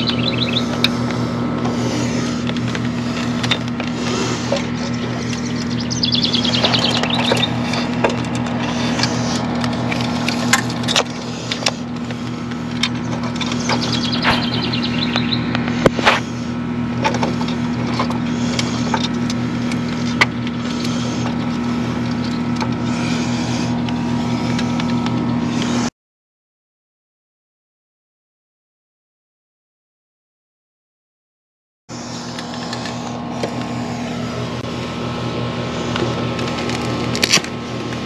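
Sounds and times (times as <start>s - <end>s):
steady low hum: 0.0s - 25.9s, 31.9s - 38.0s.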